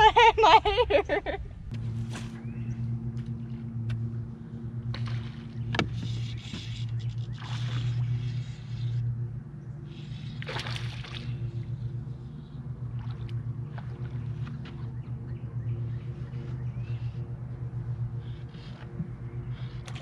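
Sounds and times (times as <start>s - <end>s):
electric trolling motor humming: 1.0s - 20.0s
water sloshing against hull: 1.6s - 20.0s.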